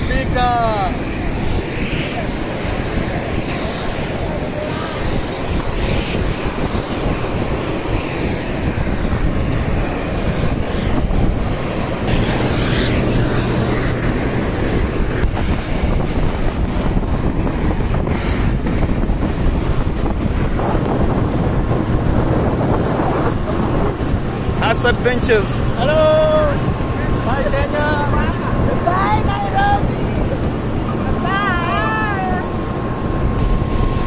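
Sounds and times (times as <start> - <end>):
aircraft engine drone: 0.0 - 34.0.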